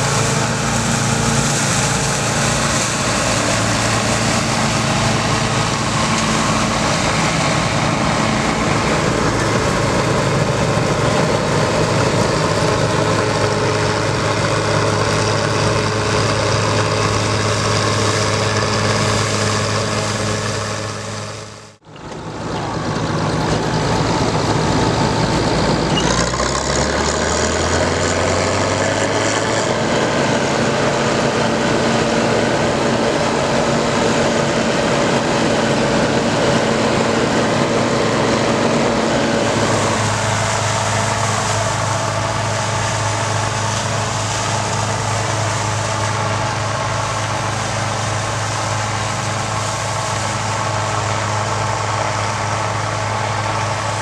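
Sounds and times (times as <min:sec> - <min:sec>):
combine harvester engine running: 0:00.0 - 0:54.0
threshing machinery: 0:00.0 - 0:54.0.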